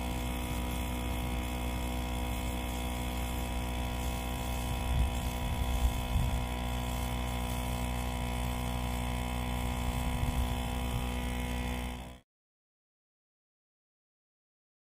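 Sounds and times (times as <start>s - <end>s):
pressure washer motor hum: 0.0s - 12.2s
water spraying on stone: 0.0s - 12.2s.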